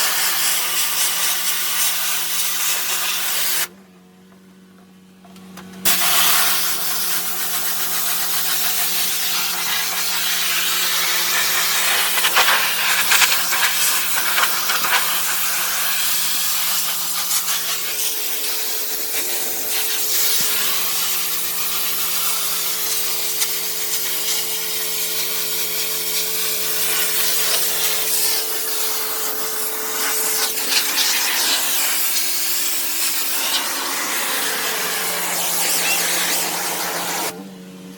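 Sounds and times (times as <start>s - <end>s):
pressure washer water jet hiss: 0.0s - 3.7s, 5.9s - 37.4s.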